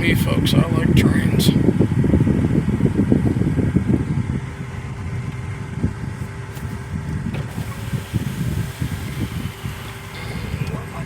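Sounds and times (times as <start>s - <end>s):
vehicle rumble inside car: 0.0s - 11.0s.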